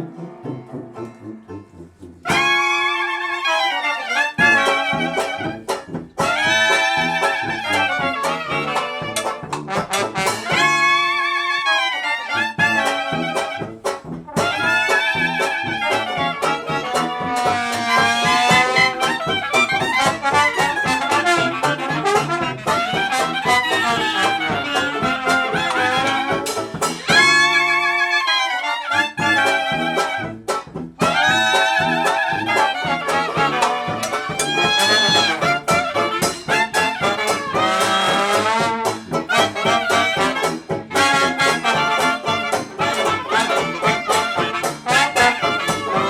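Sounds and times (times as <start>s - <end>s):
horns playing melody lines: 0.0s - 46.0s
swing jazz band playing: 0.0s - 46.0s
loud full-band hits: 2.3s - 2.9s, 4.4s - 11.0s, 12.6s - 27.8s, 29.2s - 46.0s.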